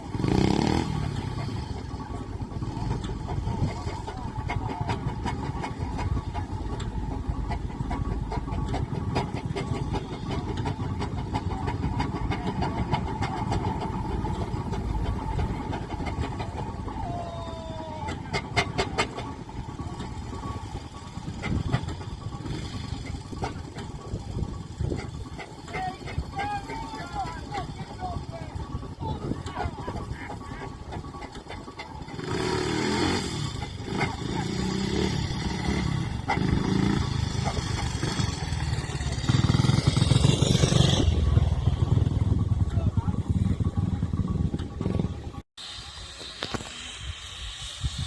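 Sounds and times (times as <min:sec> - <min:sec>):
engine knocks and clanks: 0:00.0 - 0:48.0
steam engine rumbling: 0:00.0 - 0:48.0.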